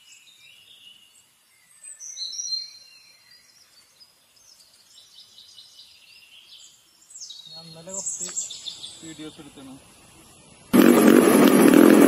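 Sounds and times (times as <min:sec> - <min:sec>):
faint bird chirping: 0:00.0 - 0:10.7.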